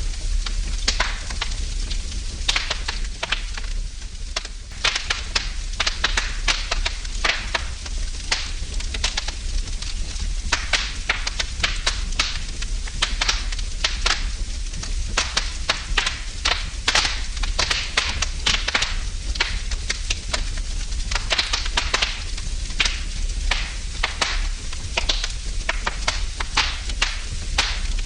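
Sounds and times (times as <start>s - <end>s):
low rumble of flame: 0.0s - 28.0s
wood fire crackling and popping: 0.0s - 28.0s.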